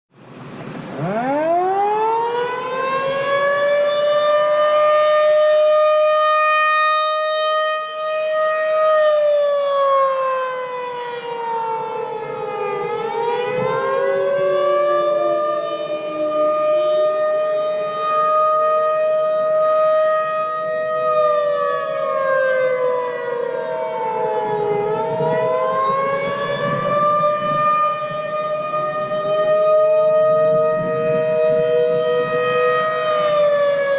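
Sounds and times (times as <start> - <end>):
civil defense siren wailing: 0.2 - 33.9
lower siren tone: 0.6 - 33.9.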